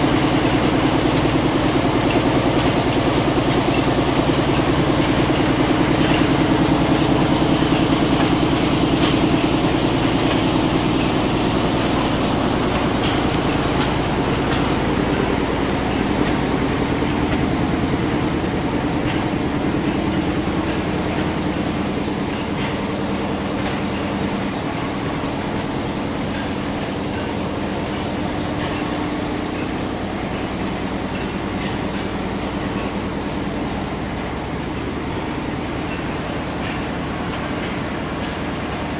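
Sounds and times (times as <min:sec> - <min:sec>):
stationary engines humming: 0:00.0 - 0:38.9.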